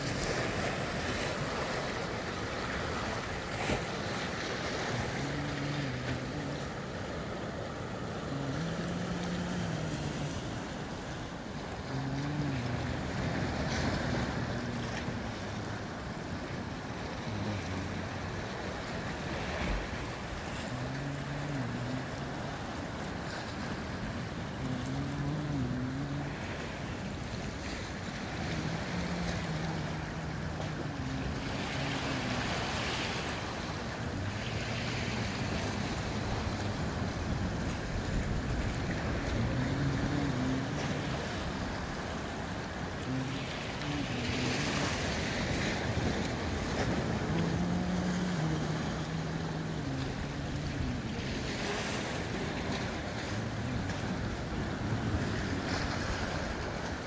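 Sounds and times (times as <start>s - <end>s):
waves breaking on rocks: 0.0s - 57.0s.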